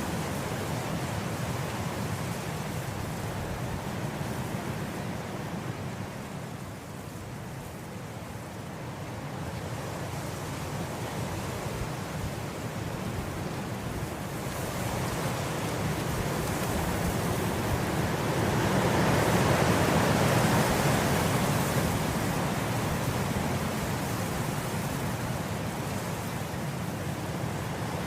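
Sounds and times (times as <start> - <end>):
wind blowing through grass: 0.0 - 28.0.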